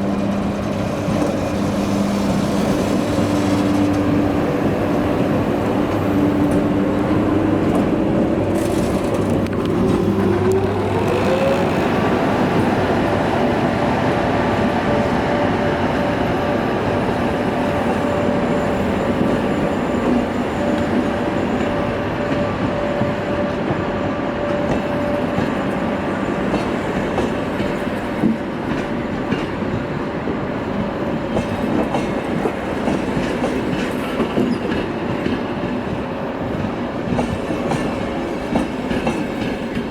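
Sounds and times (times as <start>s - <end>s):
train wheels clickety-clack: 0.0s - 39.9s.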